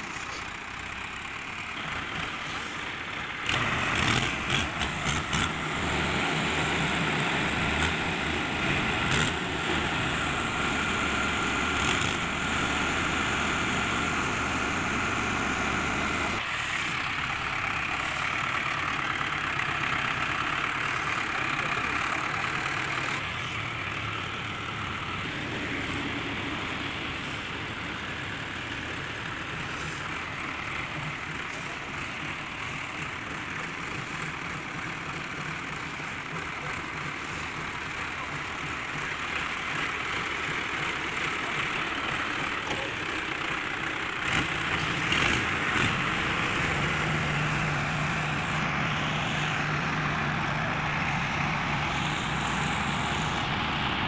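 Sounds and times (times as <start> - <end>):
tractor diesel engines running: 0.0 - 54.0.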